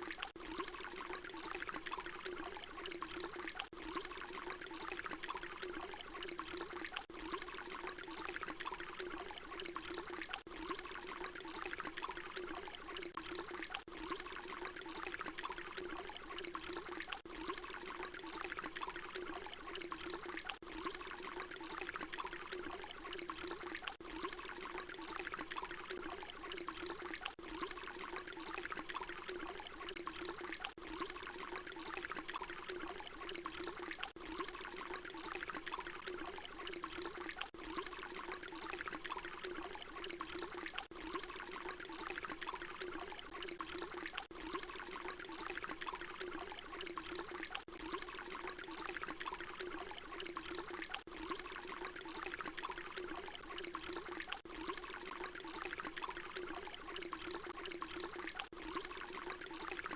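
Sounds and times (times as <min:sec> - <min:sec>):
water pouring: 0:00.0 - 0:59.9.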